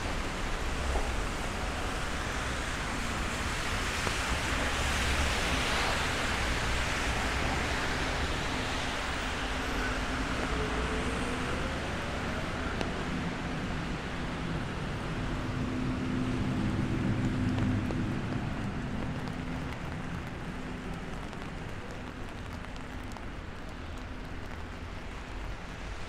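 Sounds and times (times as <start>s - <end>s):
traffic on wet streets: 0.0s - 26.0s.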